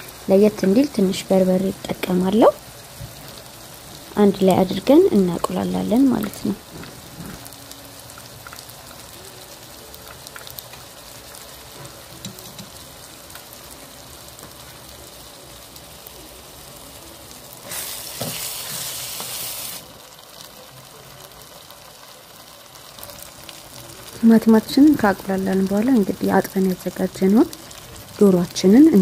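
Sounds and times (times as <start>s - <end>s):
onions sizzling in a frying pan: 0.0s - 29.0s.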